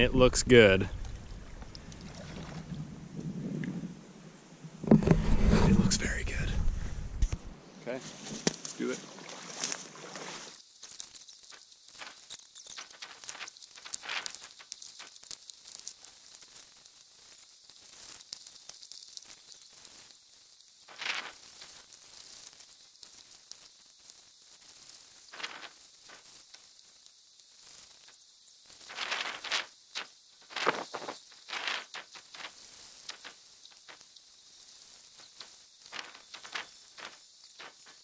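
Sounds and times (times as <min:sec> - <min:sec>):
close rustling and crackling: 0:07.2 - 0:38.0.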